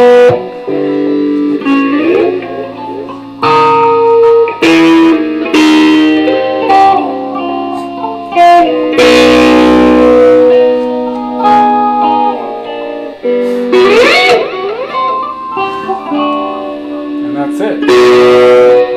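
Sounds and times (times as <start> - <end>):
electric guitar notes and chords: 0.0 - 18.9.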